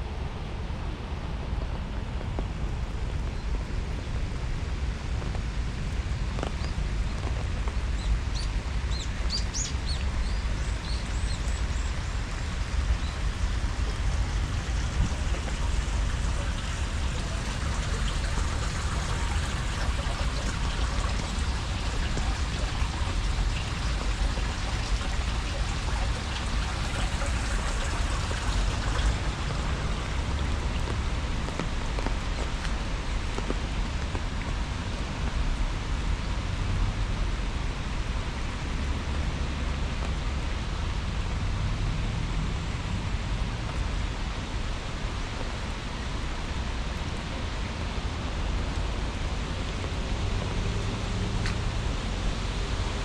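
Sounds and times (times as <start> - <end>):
low steady rumble: 0.0 - 53.0
rain pattering: 0.0 - 53.0.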